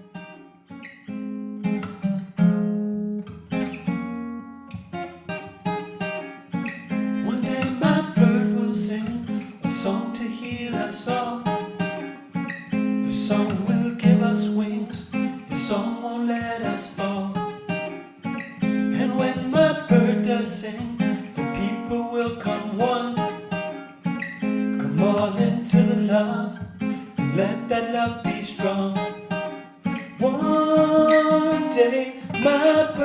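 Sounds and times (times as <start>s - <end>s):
acoustic guitar playing: 0.0s - 33.0s.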